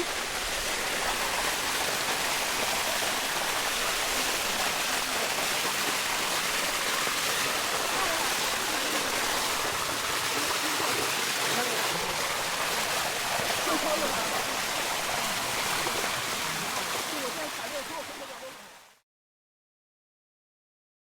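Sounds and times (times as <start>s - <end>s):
waterfall roaring over rock: 0.0s - 19.0s.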